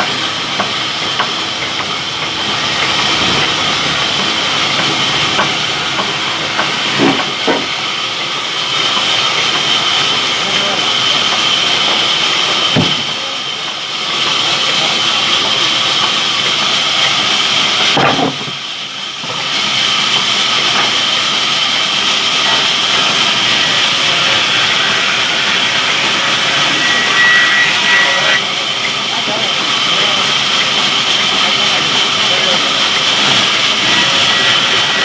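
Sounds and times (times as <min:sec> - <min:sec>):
saw machine running: 0:00.0 - 0:35.0.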